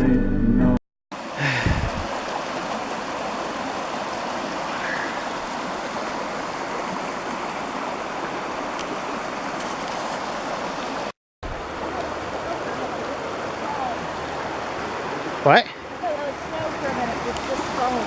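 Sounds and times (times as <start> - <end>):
rushing water stream: 1.1 - 18.0.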